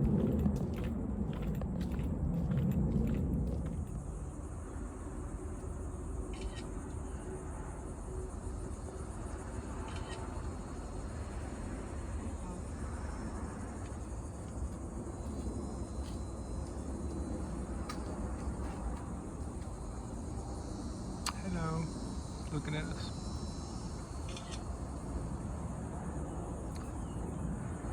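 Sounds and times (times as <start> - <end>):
insects singing: 3.8 - 27.9.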